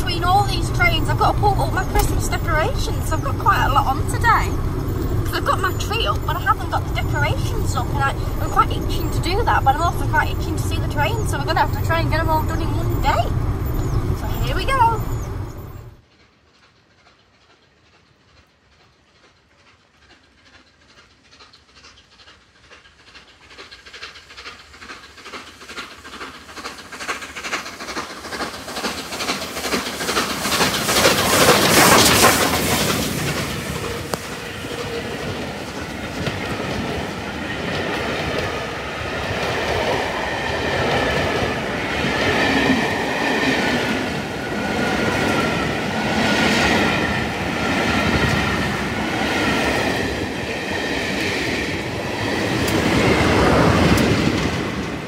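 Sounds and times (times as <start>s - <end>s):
steam locomotive chuffing: 0.0s - 55.0s
train coaches clickety-clack: 0.0s - 55.0s.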